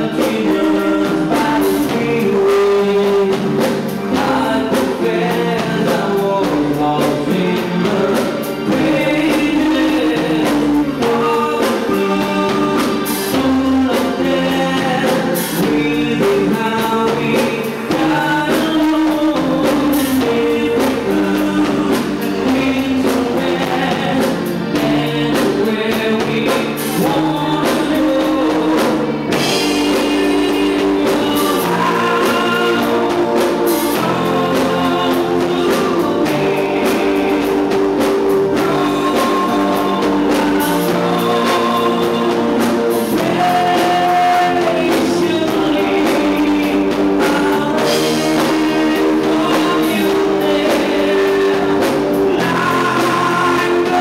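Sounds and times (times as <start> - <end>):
electric guitar: 0.0 - 54.0
live rock band playing: 0.0 - 54.0
man singing lead vocals: 0.0 - 54.0.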